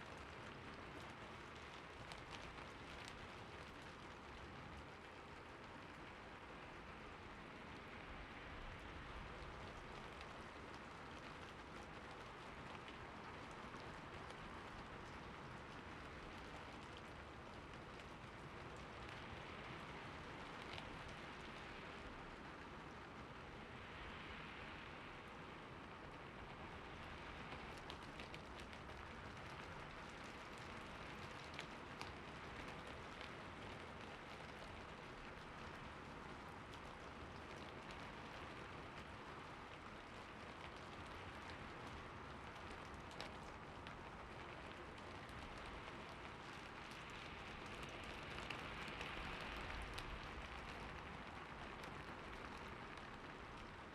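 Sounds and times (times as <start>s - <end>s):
light rain hiss: 0.0s - 53.9s
small raindrop ticks: 0.0s - 53.9s.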